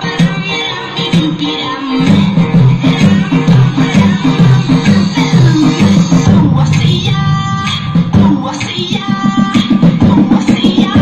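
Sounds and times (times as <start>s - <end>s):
loud electronic dance music: 0.0s - 11.0s.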